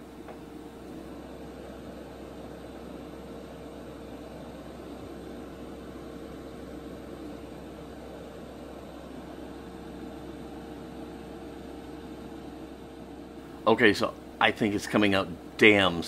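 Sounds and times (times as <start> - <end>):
exhaust fan whooshing and humming: 0.0 - 16.0.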